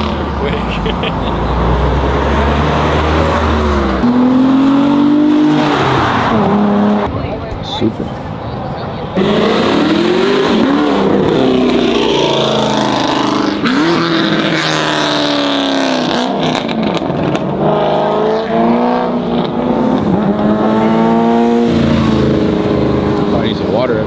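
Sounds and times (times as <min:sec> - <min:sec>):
car engine revving hard: 0:00.0 - 0:07.1, 0:09.2 - 0:24.0.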